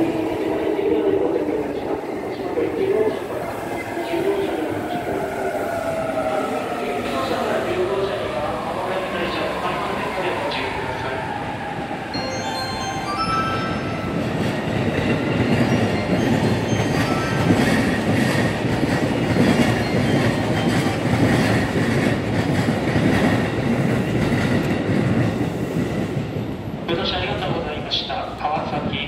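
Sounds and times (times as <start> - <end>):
train wheels rolling on rail: 0.0 - 29.0.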